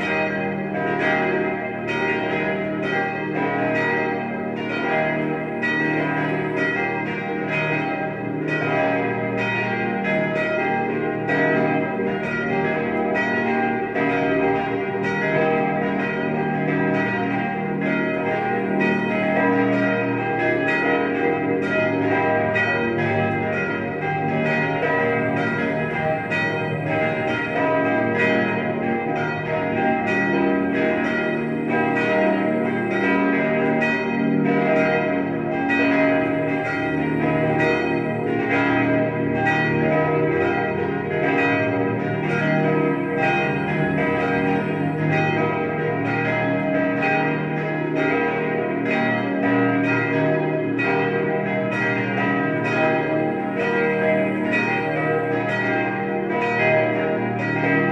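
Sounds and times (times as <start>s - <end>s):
church bells pealing: 0.0s - 57.9s.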